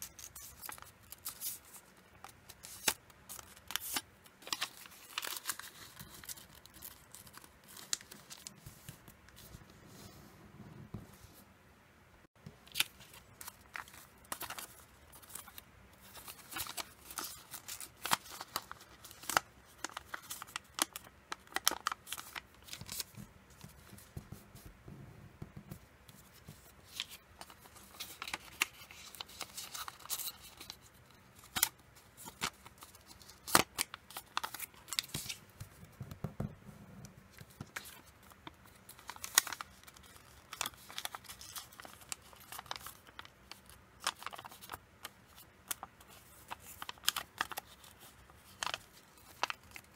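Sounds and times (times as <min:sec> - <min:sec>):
paper crinkling and rustling: 0:00.0 - 0:09.7, 0:12.6 - 0:24.6, 0:25.7 - 0:36.1, 0:37.3 - 0:49.9.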